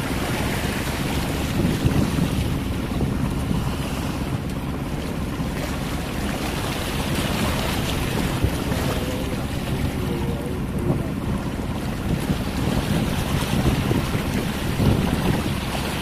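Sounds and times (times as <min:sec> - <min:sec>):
choppy waves splashing: 0:00.0 - 0:16.0
wind buffeting microphone: 0:00.0 - 0:16.0.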